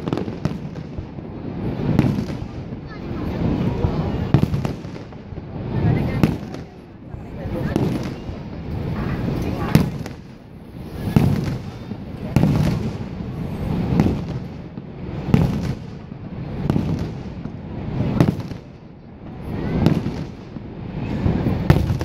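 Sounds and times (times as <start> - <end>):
fireworks booming: 0.0 - 22.0.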